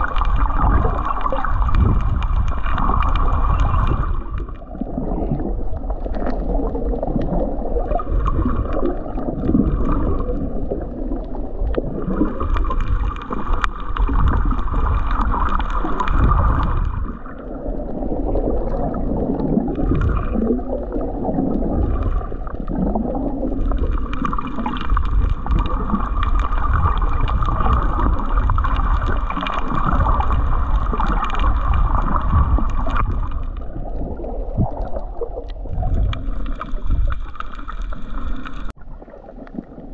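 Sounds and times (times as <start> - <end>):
steady low rumble: 0.0 - 38.8
underwater breathing bubbles: 0.0 - 39.9.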